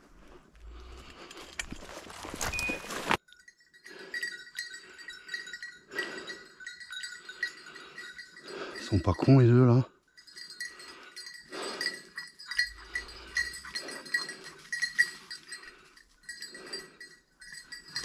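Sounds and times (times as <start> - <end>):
dog bells jingling: 0.6 - 18.0.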